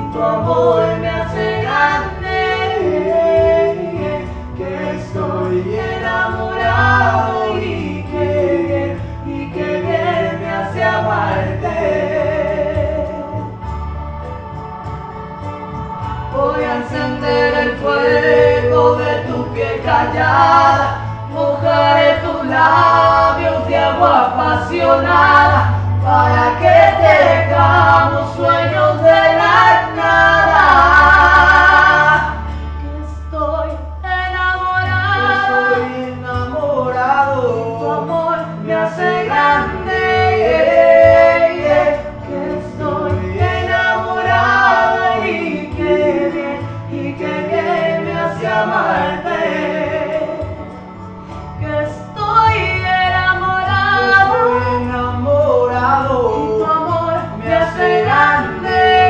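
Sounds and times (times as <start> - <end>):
backing track with bass notes: 0.0 - 59.0
man and woman singing duet: 0.0 - 59.0.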